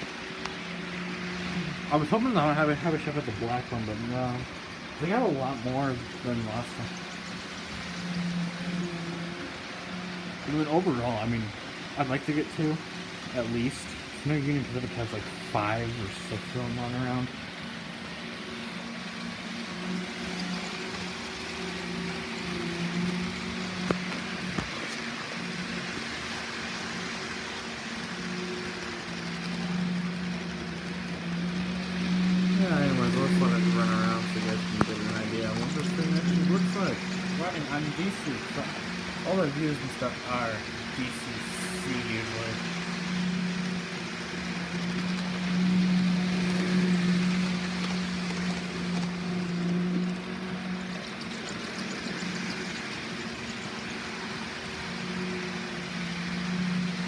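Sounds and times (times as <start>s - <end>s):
electric motor hum: 0.0s - 57.0s
wheels rattling on rails: 0.0s - 57.0s.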